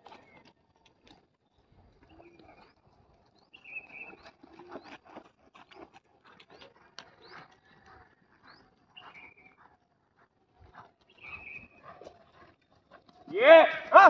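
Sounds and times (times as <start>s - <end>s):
faint birds chirping: 0.0s - 13.4s
horse hooves on dirt: 0.0s - 14.0s.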